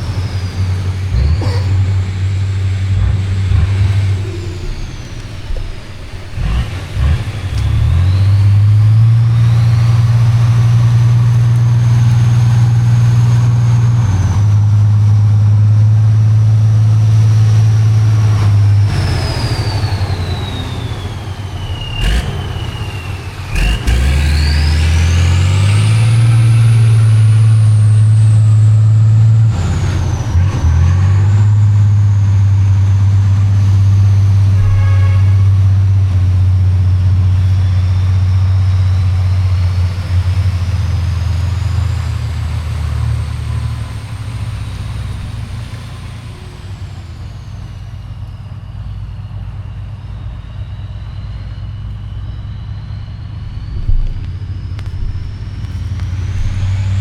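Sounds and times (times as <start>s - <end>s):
high whine: 0.0s - 57.0s
truck engine running hard: 0.0s - 57.0s.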